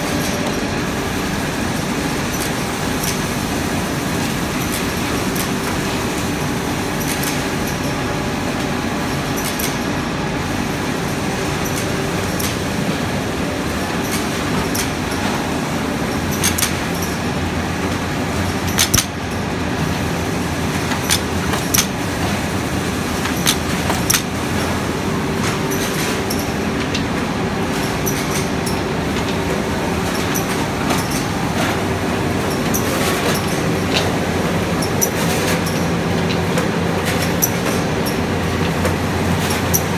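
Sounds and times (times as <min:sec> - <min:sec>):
faint machine hum: 0:00.0 - 0:39.9.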